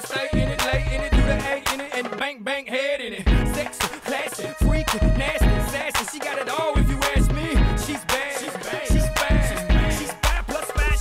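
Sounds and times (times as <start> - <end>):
heavy bass drum beat: 0.0 - 1.9, 3.3 - 11.0
rapping over a beat: 0.0 - 11.0.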